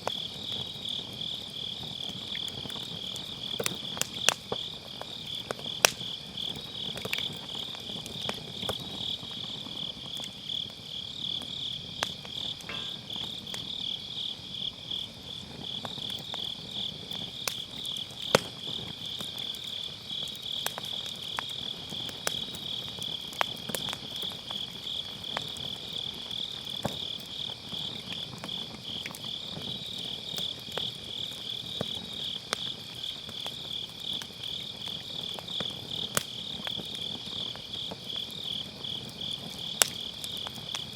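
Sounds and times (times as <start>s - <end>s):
firewood crackling and popping: 0.0s - 40.9s
insects chirping: 0.0s - 40.9s.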